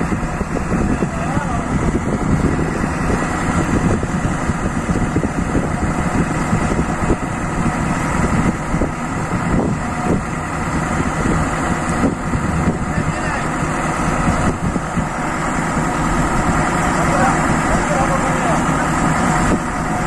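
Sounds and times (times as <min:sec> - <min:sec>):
engine running through loud exhaust: 0:00.0 - 0:20.0.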